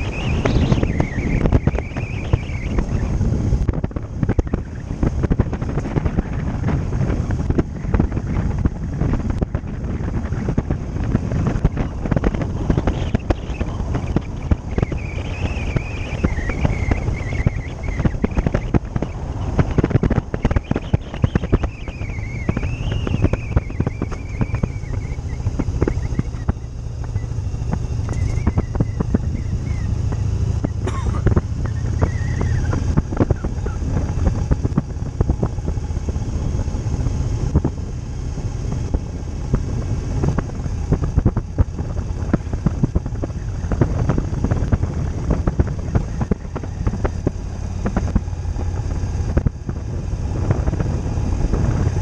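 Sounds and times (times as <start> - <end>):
motorcycle engine and road drone: 0.0 - 52.0
wind buffeting microphone: 0.0 - 52.0.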